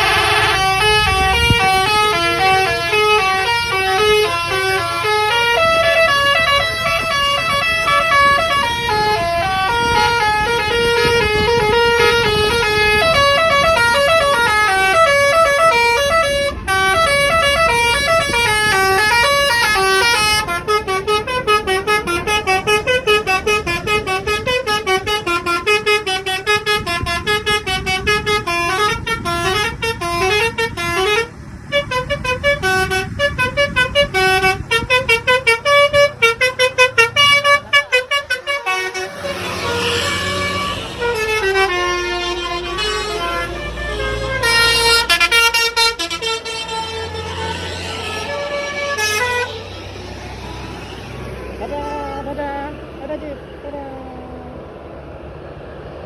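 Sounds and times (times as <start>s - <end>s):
bus horn playing a melody: 0.0s - 53.2s.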